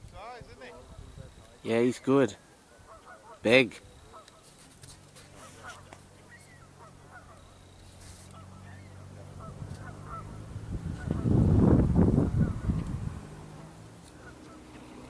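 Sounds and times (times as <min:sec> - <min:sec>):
geese honking: 0:00.6 - 0:15.0
vehicle passing on road: 0:00.6 - 0:15.0.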